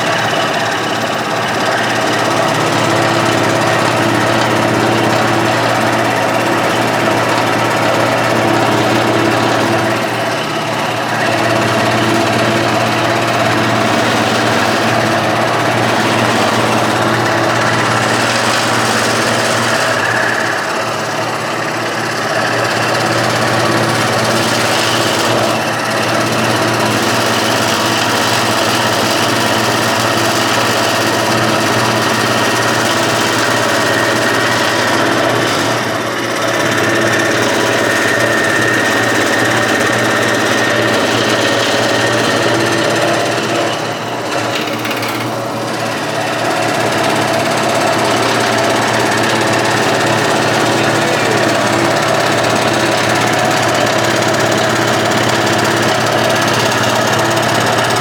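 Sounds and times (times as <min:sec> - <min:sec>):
scroll saw cutting wood: 0:00.0 - 0:58.0.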